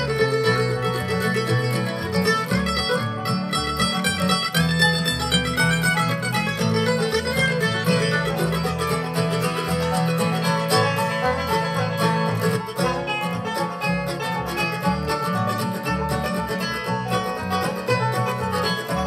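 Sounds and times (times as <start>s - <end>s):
acoustic guitar: 0.0s - 19.0s
banjo: 0.0s - 19.0s
mandolin: 0.0s - 19.0s
plucked upright bass: 0.0s - 19.0s.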